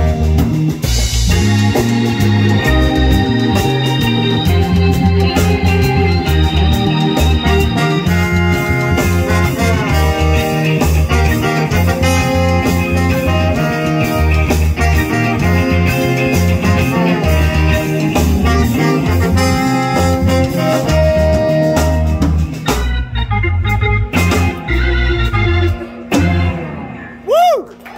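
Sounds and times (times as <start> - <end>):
trombone and saxophone horn lines: 0.0 - 27.0
hammond organ: 0.0 - 27.3
bass guitar: 0.0 - 27.9
live reggae band playing: 0.0 - 27.9.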